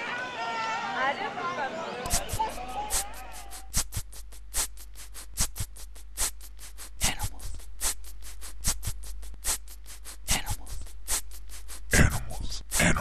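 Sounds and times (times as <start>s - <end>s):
beatboxing clicks and hisses: 2.1s - 13.0s.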